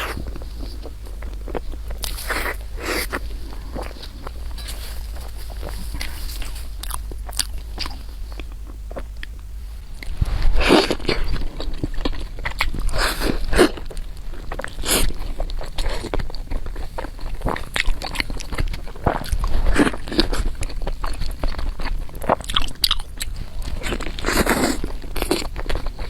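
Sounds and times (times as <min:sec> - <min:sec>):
person chewing and smacking food: 0:00.0 - 0:26.0.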